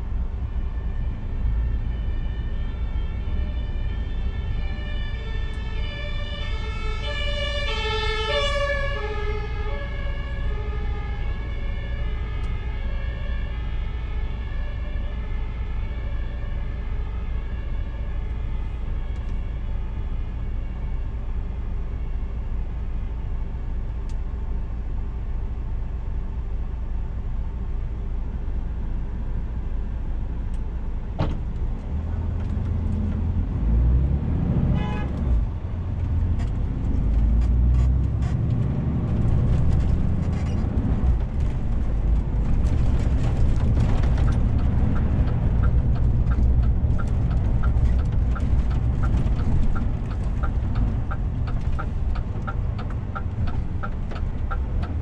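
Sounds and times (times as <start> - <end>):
diesel truck engine: 0.0 - 55.0
road noise: 0.0 - 55.0.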